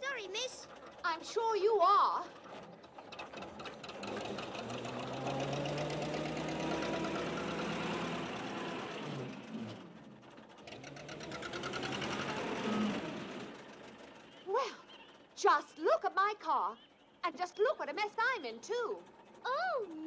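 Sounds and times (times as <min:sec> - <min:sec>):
small car engine puttering: 0:00.0 - 0:20.0.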